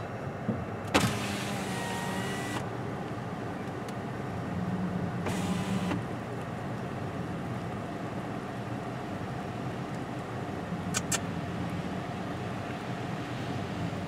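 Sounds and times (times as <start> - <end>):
car engine humming: 0.0 - 12.8.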